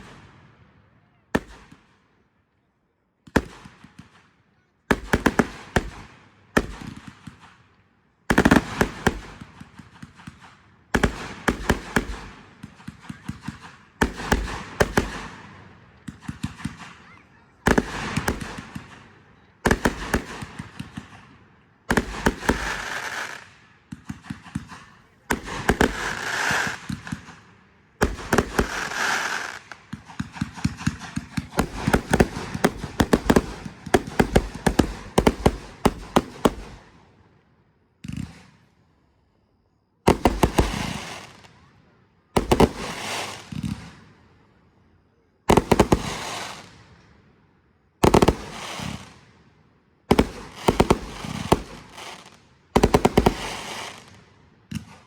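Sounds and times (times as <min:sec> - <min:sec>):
fireworks bangs and crackles: 0:00.0 - 0:02.2, 0:03.2 - 0:37.2, 0:38.0 - 0:38.9, 0:40.0 - 0:44.5, 0:45.4 - 0:47.4, 0:48.0 - 0:55.0.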